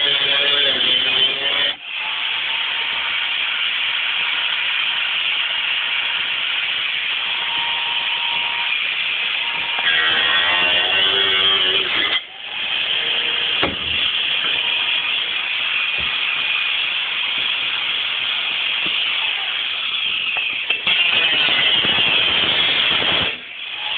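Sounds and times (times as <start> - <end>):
angle grinder cutting sheet metal: 0.0 - 23.9.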